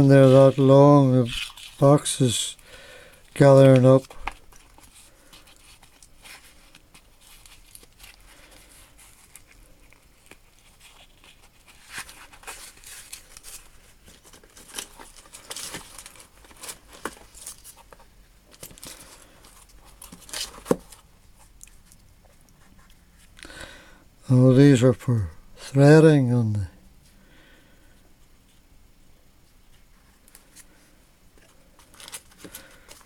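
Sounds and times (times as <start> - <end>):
wrapping crinkling and rustling: 0.0 - 23.6, 29.5 - 33.0.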